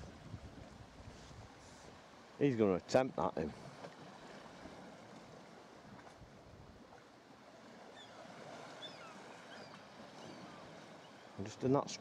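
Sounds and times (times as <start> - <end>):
sea water lapping: 0.0 - 12.0.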